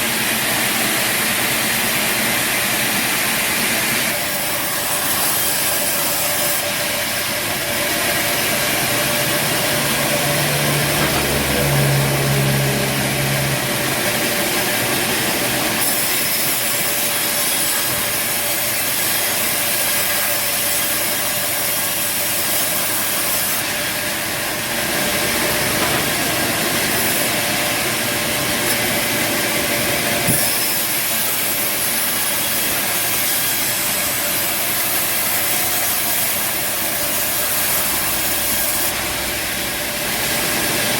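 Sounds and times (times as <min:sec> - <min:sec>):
blade sawing through timber: 0:00.0 - 0:40.9
sawmill motor droning: 0:00.0 - 0:40.9.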